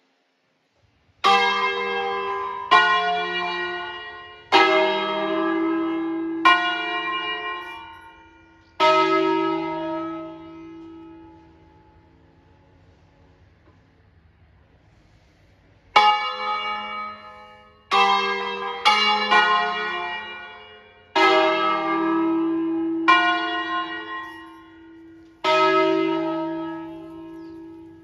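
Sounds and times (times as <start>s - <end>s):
church bells ringing: 1.2s - 14.4s, 15.8s - 28.0s.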